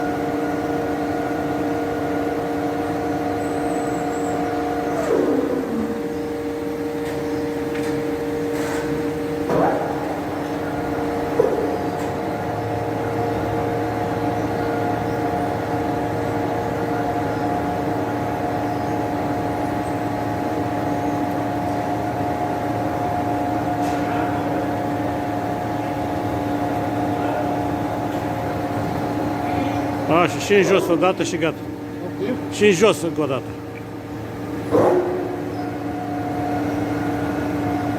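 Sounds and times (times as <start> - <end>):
low drone: 0.0 - 32.4
grinding machine humming: 0.0 - 37.9.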